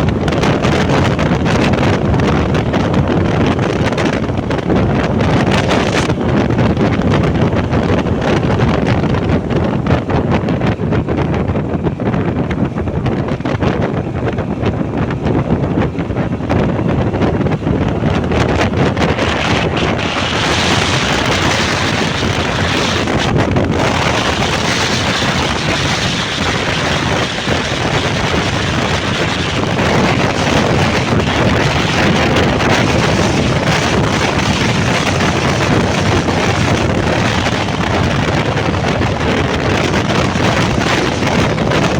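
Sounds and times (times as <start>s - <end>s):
motorbike engine: 0.0s - 41.9s
road noise: 0.0s - 41.9s
wind buffeting microphone: 0.0s - 41.9s.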